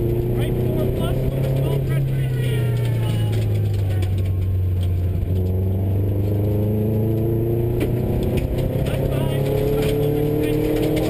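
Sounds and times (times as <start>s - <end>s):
rally car engine accelerating: 0.0s - 11.0s
gravel clicks and knocks: 1.0s - 7.2s, 7.8s - 11.0s.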